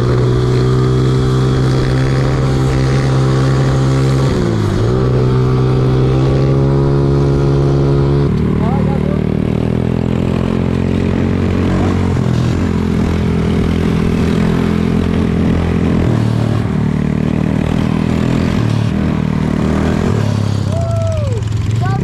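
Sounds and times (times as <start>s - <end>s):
small motorcycle engines running: 0.0s - 22.0s.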